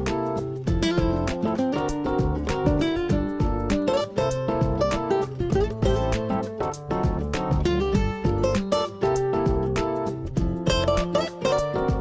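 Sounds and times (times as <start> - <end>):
bass line: 0.0 - 12.0
strummed acoustic guitar: 0.0 - 12.0.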